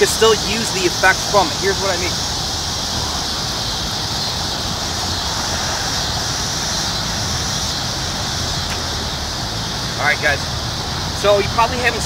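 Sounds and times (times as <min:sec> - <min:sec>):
high-pitched hiss: 0:00.0 - 0:12.0
wind rumbling on microphone: 0:00.0 - 0:12.0.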